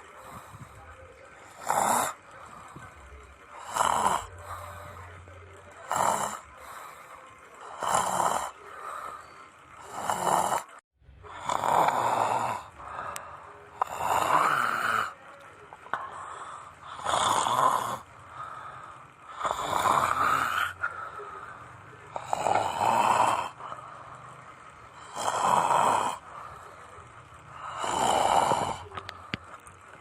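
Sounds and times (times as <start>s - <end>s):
person snoring: 1.5s - 2.8s, 3.5s - 15.2s, 15.9s - 29.6s.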